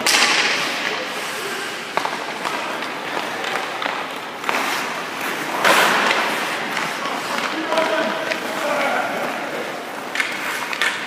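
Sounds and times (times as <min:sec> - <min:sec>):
skate blades scraping ice: 0:00.0 - 0:11.0.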